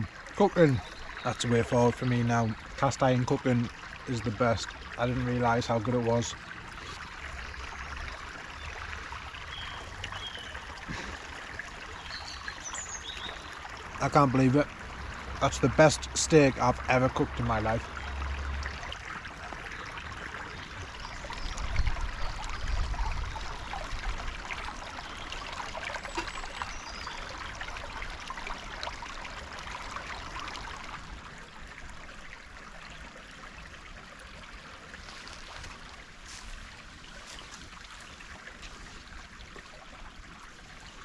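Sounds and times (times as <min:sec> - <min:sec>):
stream running over stones: 0:00.0 - 0:41.0.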